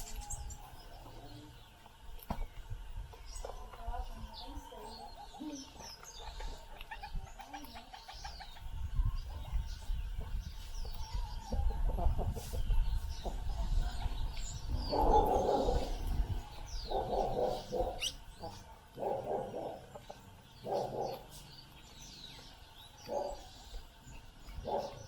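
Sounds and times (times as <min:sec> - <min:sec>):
birds chirping: 0:00.0 - 0:25.0
lower bird calls: 0:00.0 - 0:25.0.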